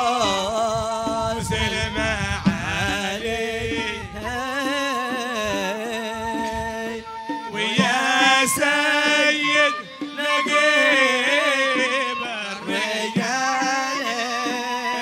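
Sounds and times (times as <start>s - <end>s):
held instrument tones: 0.0s - 15.0s
man singing ornamented melody: 0.0s - 15.0s.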